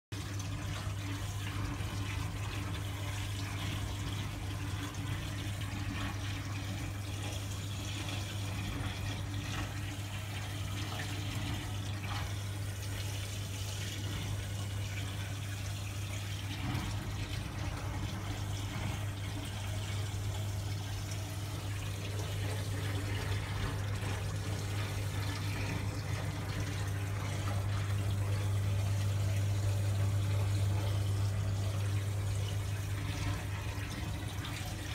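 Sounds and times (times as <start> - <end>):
aquarium pump humming: 0.1 - 34.9
water trickling and splashing: 0.1 - 34.9.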